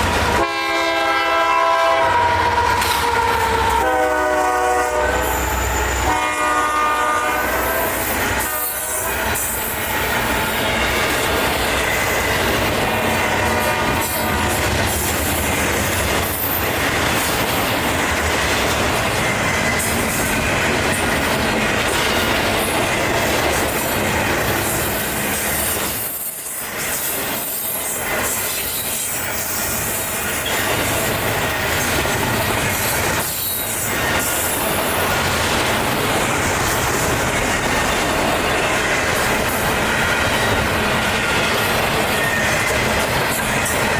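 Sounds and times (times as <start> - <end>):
freight train cars rolling: 0.0 - 43.9
wheels clacking over rail joints: 2.4 - 3.9, 9.2 - 43.9
train wheels squealing: 5.0 - 6.2, 7.4 - 17.9, 18.8 - 43.9.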